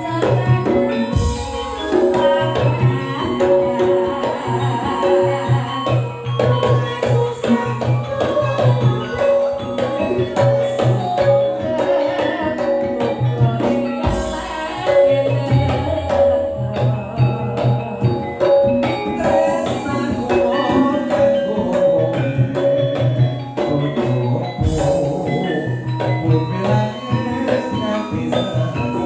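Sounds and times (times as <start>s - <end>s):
hand drums beating busy rhythm: 0.0s - 29.0s.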